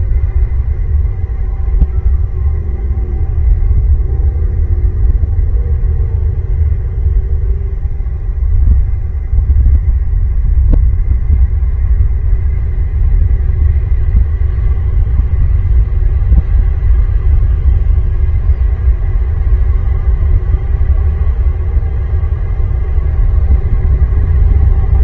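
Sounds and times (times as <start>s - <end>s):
loud low rumble: 0.0s - 25.0s.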